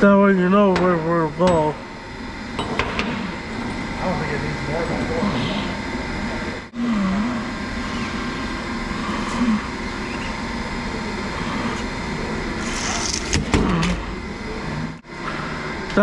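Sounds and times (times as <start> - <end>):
steady mechanical noise: 0.0 - 16.0.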